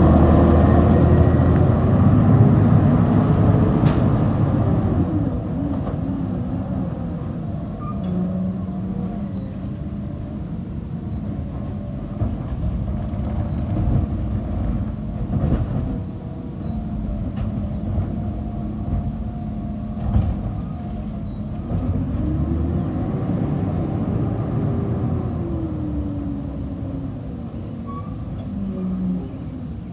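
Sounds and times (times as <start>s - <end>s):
garbage truck engine running: 0.0s - 27.7s.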